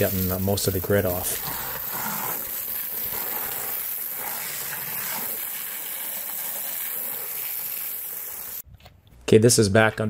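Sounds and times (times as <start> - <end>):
hose spray splashing off mud: 0.0 - 8.6.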